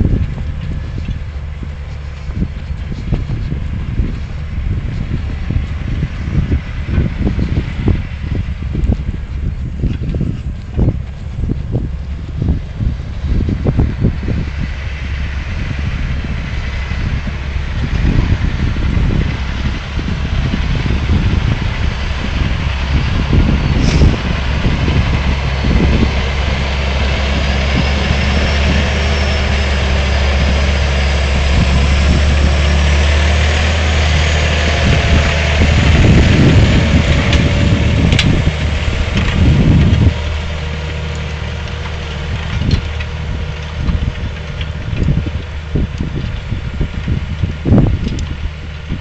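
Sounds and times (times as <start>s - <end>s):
tractor diesel engine under load: 0.0s - 49.0s.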